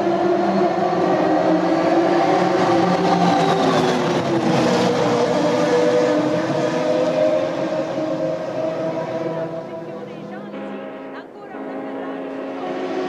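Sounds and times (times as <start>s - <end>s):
race car engines at high revs: 0.0s - 10.5s.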